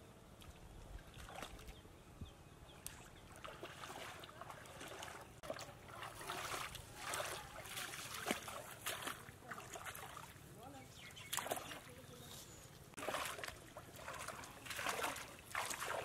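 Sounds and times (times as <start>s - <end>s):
feet splashing in muddy water: 0.4s - 1.8s, 2.9s - 12.3s, 12.9s - 16.0s.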